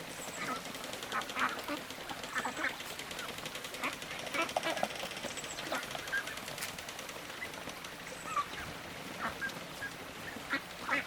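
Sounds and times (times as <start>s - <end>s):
ducks and chickens calling: 0.0s - 11.0s.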